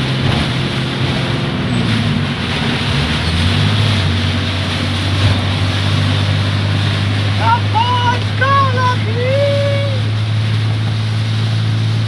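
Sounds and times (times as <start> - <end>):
heavy rain and wind: 0.0 - 12.0
low engine hum: 0.0 - 12.0.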